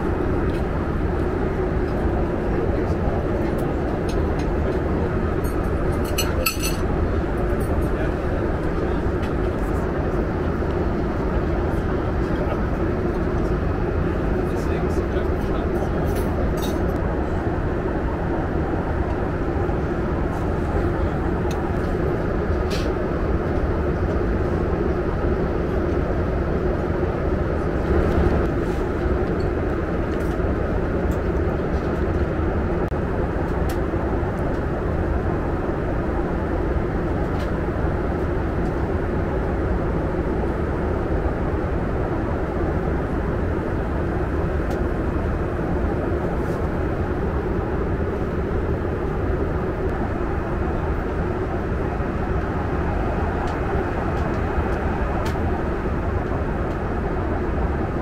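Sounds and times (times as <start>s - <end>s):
airplane cabin engine noise: 0.0s - 58.0s.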